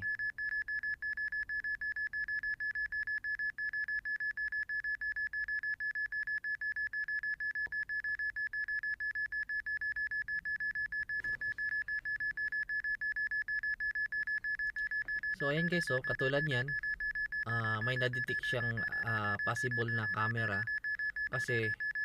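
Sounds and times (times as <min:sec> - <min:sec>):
rapid high beeping: 0:00.0 - 0:22.0.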